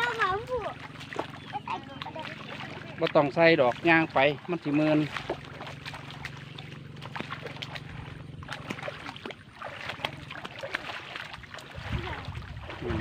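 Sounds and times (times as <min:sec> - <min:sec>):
footsteps wading through water: 0:00.0 - 0:13.0
low steady hum: 0:00.0 - 0:13.0.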